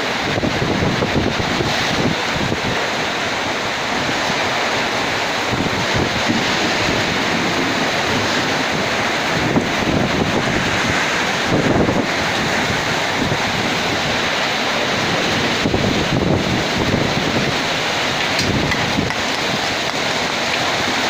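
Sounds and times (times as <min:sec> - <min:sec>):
heavy rain: 0:00.0 - 0:21.0
strong gusting wind: 0:00.0 - 0:21.0
wind buffeting microphone: 0:00.0 - 0:21.0.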